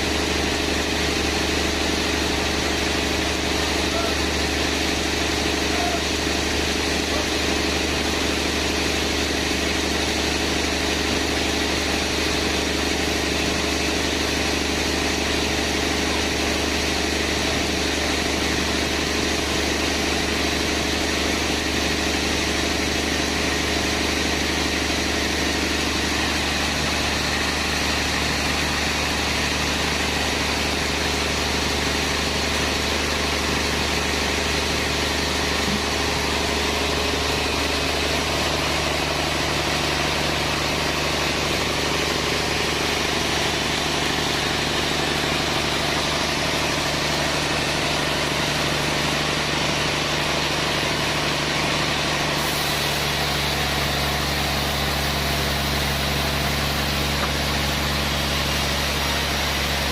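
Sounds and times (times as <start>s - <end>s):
sawmill machinery hum: 0.0s - 59.9s.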